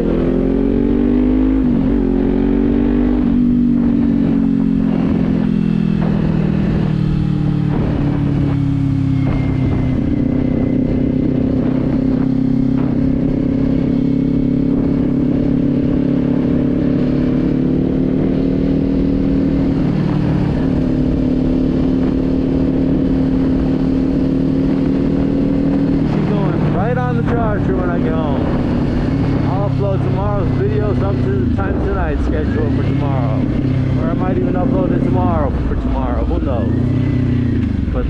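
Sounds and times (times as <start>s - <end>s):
motorcycle engine cruising: 0.0s - 38.0s
wind rumble on microphone: 0.0s - 38.0s.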